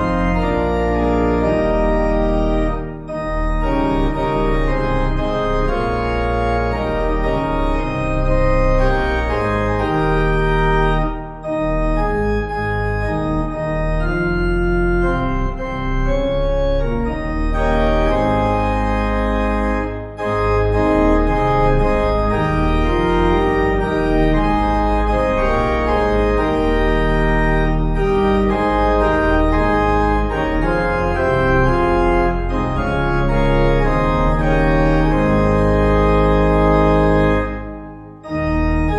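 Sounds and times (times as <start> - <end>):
organ playing slow chords: 0.0 - 38.9.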